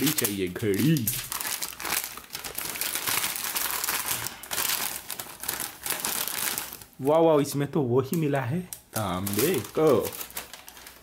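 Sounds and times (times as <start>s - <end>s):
crunchy snacks crackling: 0.0s - 7.0s, 8.1s - 11.0s
plastic snack packet crinkling: 0.0s - 7.1s, 8.0s - 11.0s.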